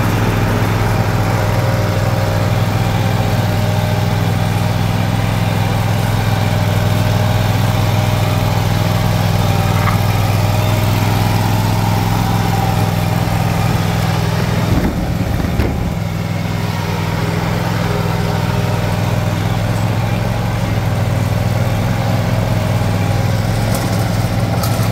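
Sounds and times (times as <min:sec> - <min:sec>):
mower engine running: 0:00.0 - 0:24.9.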